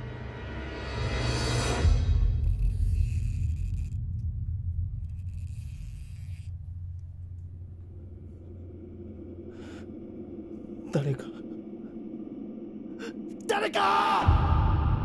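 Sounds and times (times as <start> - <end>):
low rumbling suspense drone: 0.0 - 13.5, 14.2 - 15.0.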